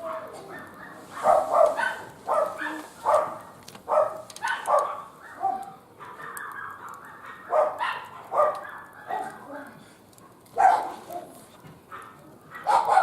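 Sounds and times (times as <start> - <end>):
dog barking: 0.0 - 9.5, 10.2 - 13.0.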